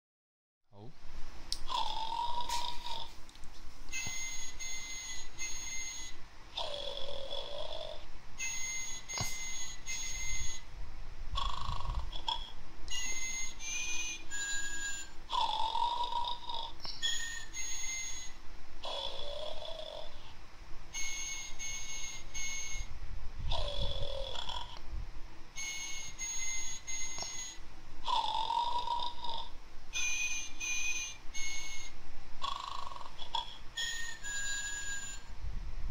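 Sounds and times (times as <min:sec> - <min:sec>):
toy snoring with whistling tones: 0:01.7 - 0:03.1, 0:03.9 - 0:10.6, 0:11.4 - 0:20.3, 0:21.0 - 0:22.9, 0:23.5 - 0:24.8, 0:25.6 - 0:35.3.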